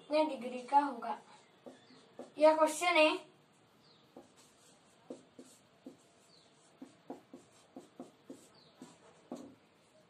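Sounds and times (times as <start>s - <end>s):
marker squeaking on whiteboard: 0.3s - 2.9s, 3.6s - 10.0s.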